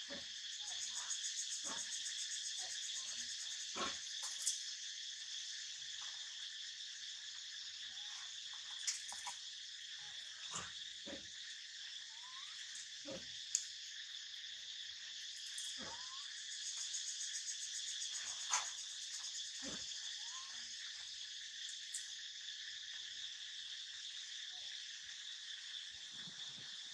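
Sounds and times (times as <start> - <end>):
high-pitched insect drone: 0.0 - 26.9.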